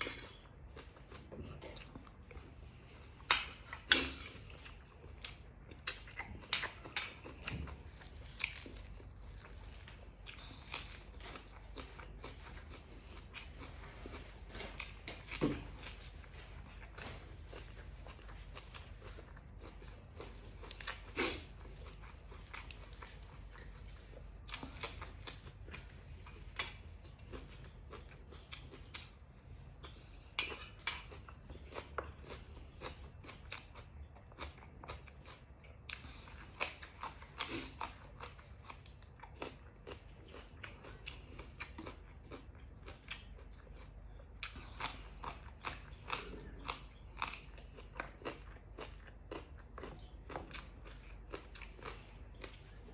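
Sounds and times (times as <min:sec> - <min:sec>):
person chewing and crunching: 0:00.0 - 0:52.9.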